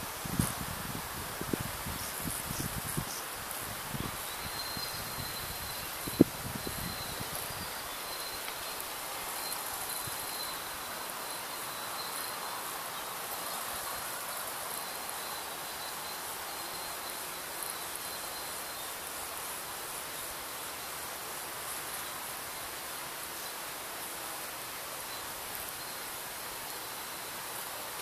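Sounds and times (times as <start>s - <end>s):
faint even hiss: 0.0s - 28.0s
insects chirring: 0.0s - 28.0s.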